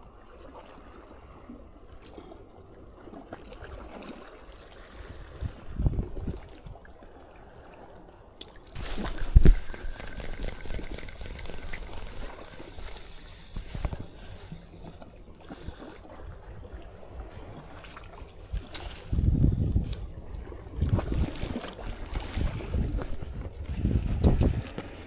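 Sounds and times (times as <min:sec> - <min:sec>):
water trickling and splashing: 0:00.0 - 0:25.0.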